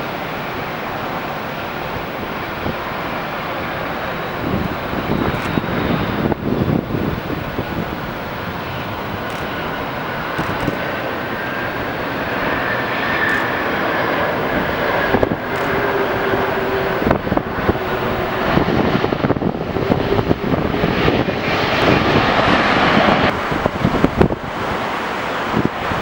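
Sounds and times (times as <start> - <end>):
jet engines roaring with high whine: 0.0 - 26.0.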